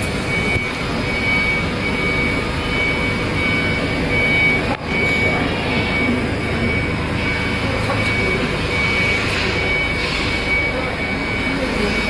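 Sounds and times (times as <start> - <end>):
thin high machine whine: 0.0 - 12.0.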